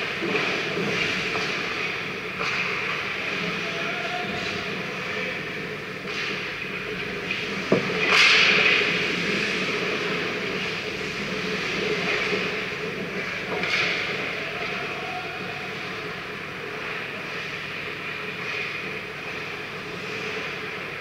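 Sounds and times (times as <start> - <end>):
steady arena hum: 0.0 - 21.0.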